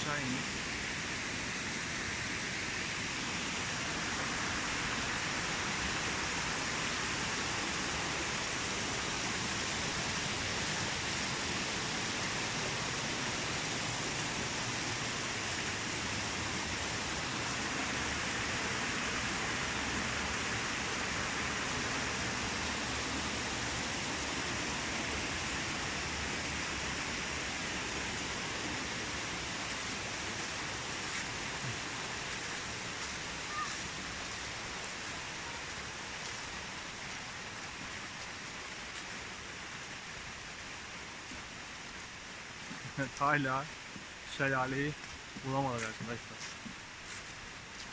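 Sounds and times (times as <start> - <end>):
stream rushing: 0.0 - 47.9.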